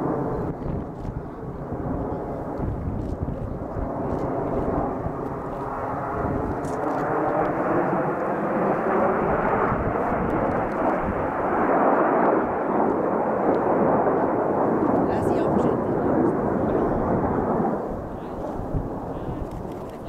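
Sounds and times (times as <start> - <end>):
jets passing overhead: 0.0 - 20.0.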